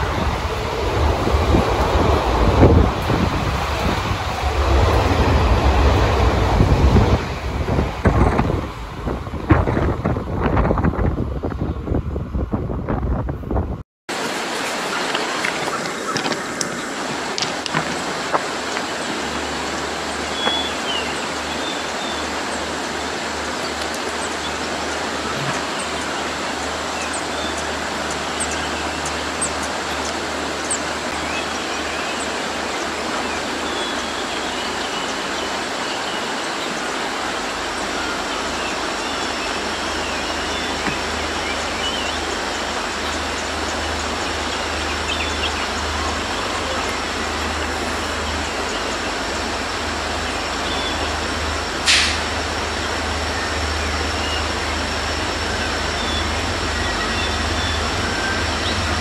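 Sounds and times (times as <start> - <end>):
train rumbling through tunnel: 0.0 - 59.0.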